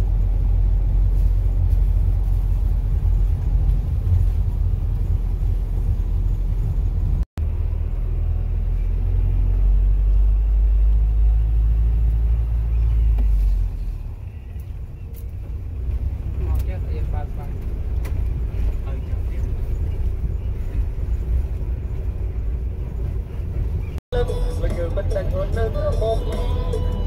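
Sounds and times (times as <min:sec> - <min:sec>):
vehicle rumbling on rough road: 0:00.0 - 0:27.0.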